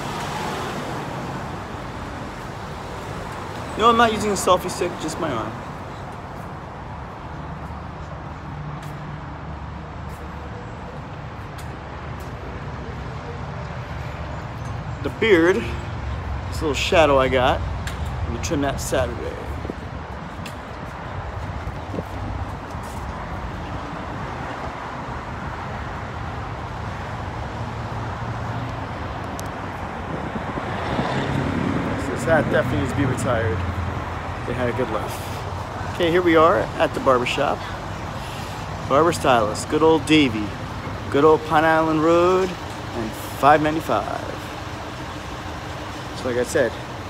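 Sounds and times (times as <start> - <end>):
passing cars rumble: 0.0 - 47.0
road traffic: 0.0 - 47.0.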